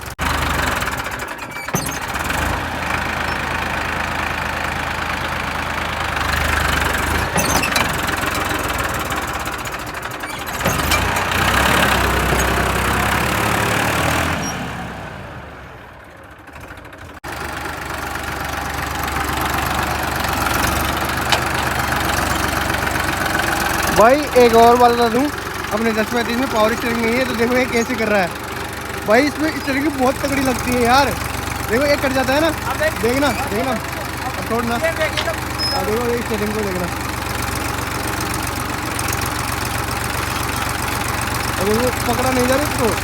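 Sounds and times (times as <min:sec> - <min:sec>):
tractor diesel engine labouring: 0:00.0 - 0:43.0.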